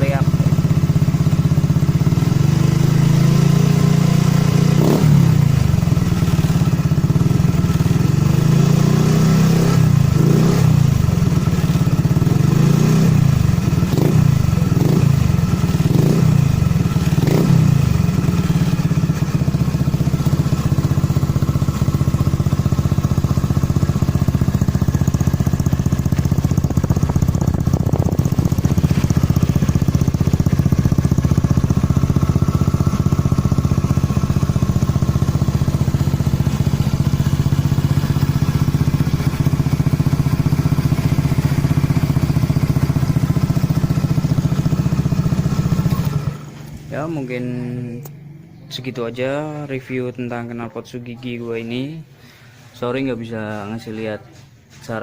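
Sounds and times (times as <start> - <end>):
scooter engine revving and idling: 0.0 - 54.0.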